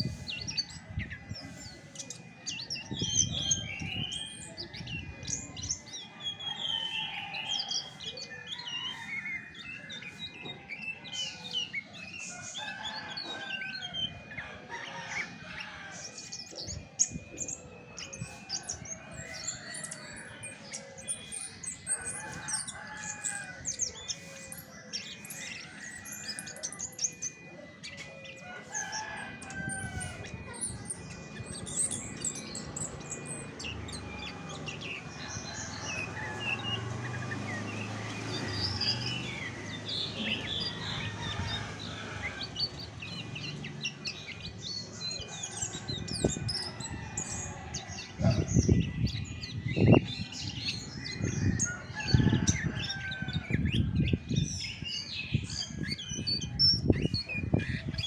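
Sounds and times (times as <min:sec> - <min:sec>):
thrush singing: 0:00.0 - 0:58.0.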